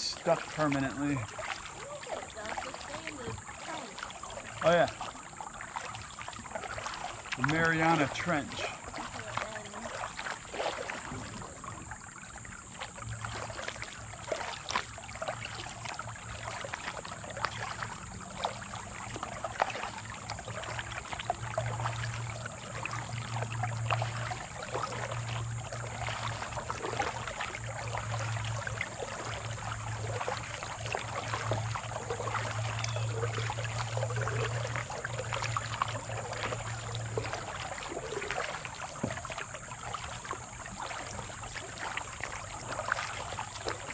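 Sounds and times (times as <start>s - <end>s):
water dripping: 0.0s - 11.4s, 12.7s - 43.9s
paddle splashing in water: 0.0s - 43.9s
water trickling: 0.0s - 43.9s.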